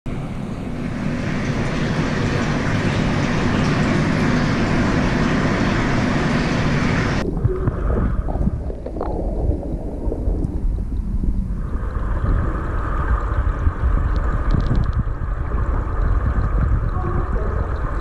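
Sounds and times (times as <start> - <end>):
aquarium water rushing: 0.1 - 18.0
deep rumble: 0.1 - 18.0.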